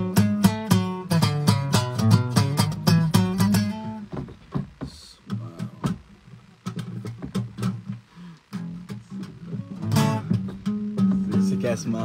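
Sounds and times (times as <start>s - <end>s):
acoustic guitar plucking and strumming: 0.0s - 12.0s.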